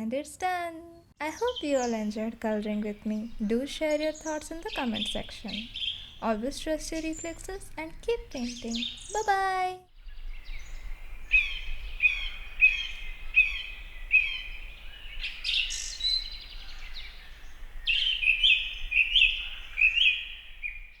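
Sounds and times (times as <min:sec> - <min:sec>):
small bird chirping: 0:01.2 - 0:21.0.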